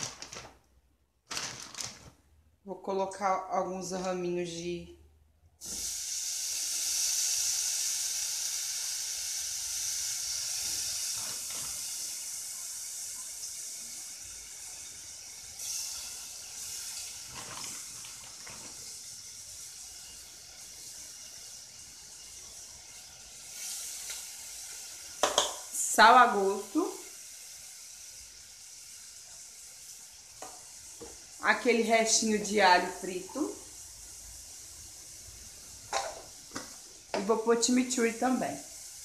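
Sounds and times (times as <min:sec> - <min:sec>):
broccoli sizzling in hot oil: 0:05.6 - 0:39.0.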